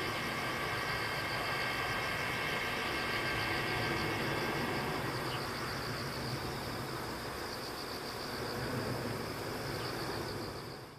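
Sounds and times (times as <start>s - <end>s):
distant jet engines roaring: 0.0s - 10.9s
insects chirring: 0.0s - 10.9s.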